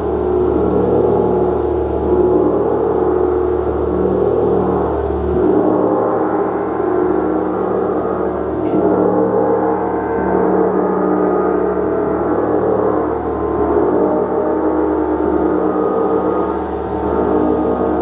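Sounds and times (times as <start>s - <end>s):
gong sustained ringing: 0.0s - 18.0s.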